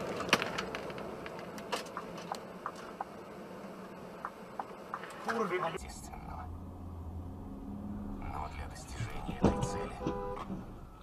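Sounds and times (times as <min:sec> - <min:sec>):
road and engine noise inside vehicle: 0:00.0 - 0:11.0.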